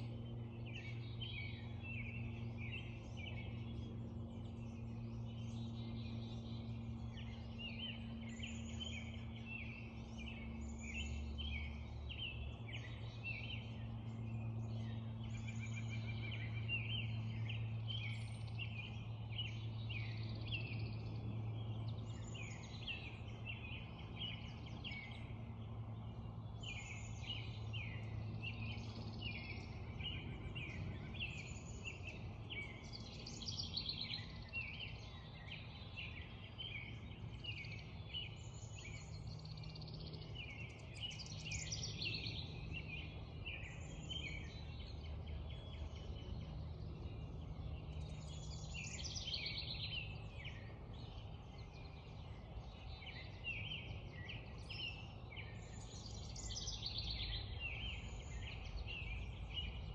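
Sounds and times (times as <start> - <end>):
low steady background rumble: 0.0 - 59.9
songbirds singing and calling: 0.0 - 59.9.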